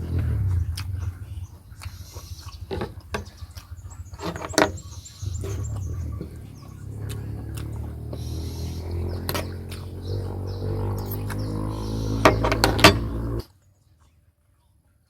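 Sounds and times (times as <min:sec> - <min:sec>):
low steady hum: 0:00.0 - 0:13.4.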